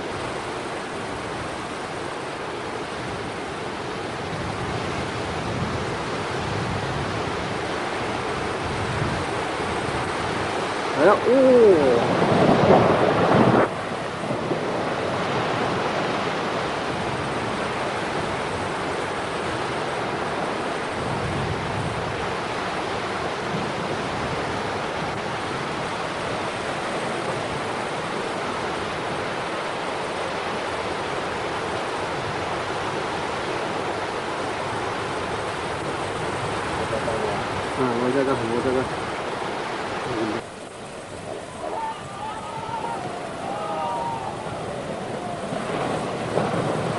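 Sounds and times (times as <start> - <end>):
rushing water roar: 0.0 - 46.9.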